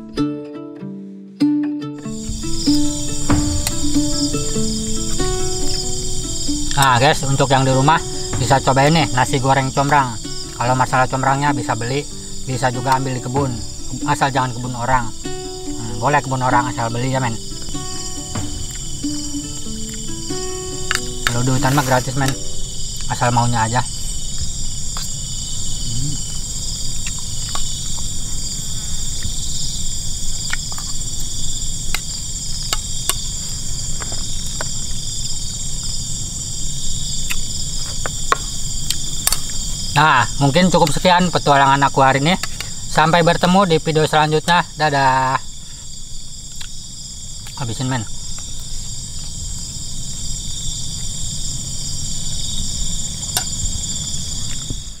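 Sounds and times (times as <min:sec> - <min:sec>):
high-pitched insect chorus: 0:01.8 - 0:55.0.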